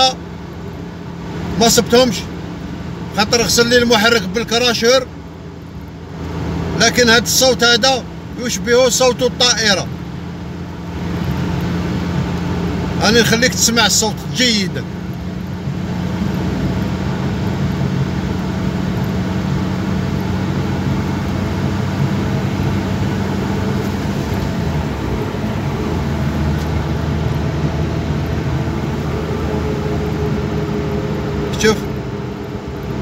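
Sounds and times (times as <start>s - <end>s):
air roar inside car: 0.0s - 33.0s
low engine hum: 0.0s - 33.0s.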